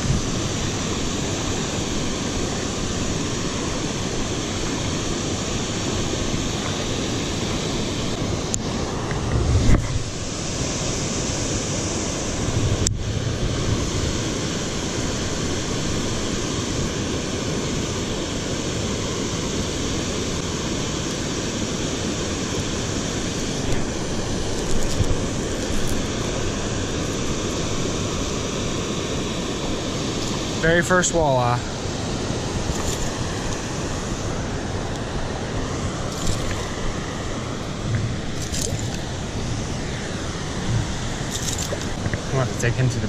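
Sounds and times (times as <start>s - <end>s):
wind rumble on microphone: 0.0s - 20.6s, 22.2s - 30.8s, 31.6s - 43.0s
river water rushing: 0.0s - 43.0s.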